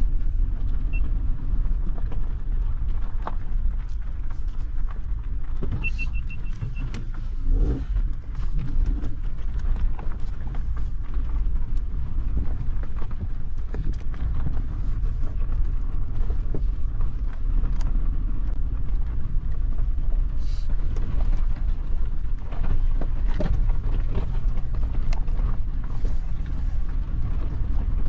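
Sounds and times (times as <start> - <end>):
vehicle driving low rumble: 0.0 - 28.0.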